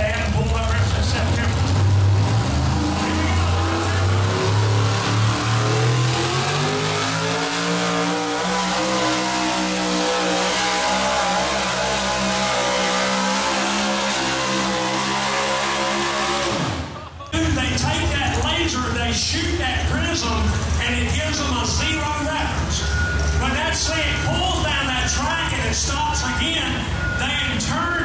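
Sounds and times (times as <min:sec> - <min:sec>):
truck engine running hard: 0:00.0 - 0:28.0.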